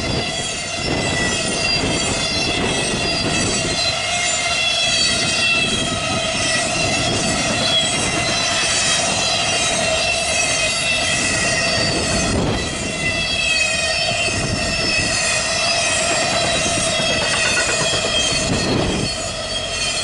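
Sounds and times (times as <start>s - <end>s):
freight train wheels rolling: 0.0s - 20.0s
wheels squealing: 0.1s - 20.0s.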